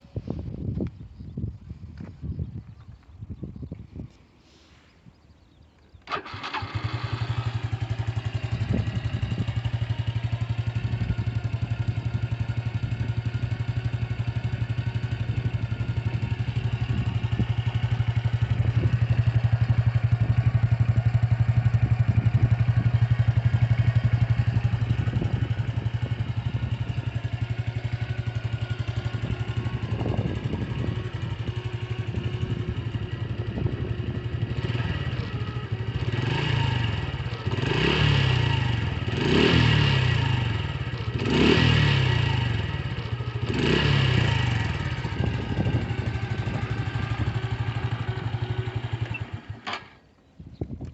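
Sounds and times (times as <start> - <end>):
motorcycle engine idling: 5.4 - 50.7.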